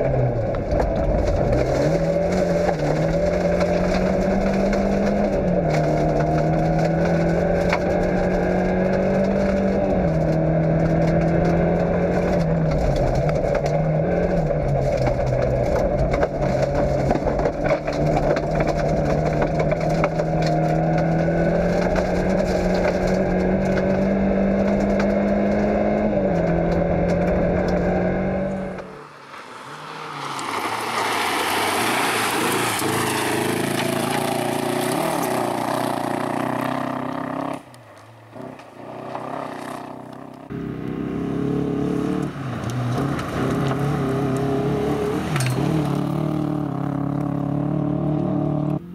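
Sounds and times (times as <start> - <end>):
rally car engine revving: 0.0 - 48.9
gravel hitting car underside: 0.4 - 27.8, 30.2 - 40.6, 42.0 - 47.8.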